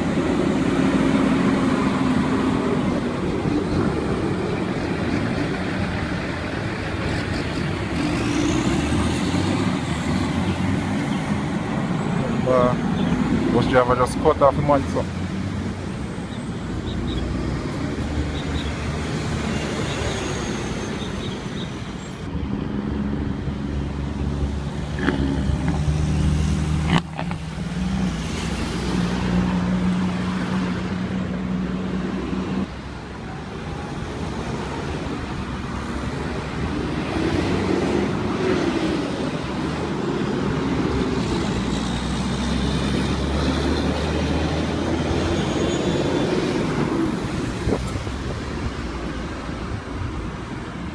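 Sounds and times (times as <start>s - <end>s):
road traffic passing: 0.0s - 50.9s.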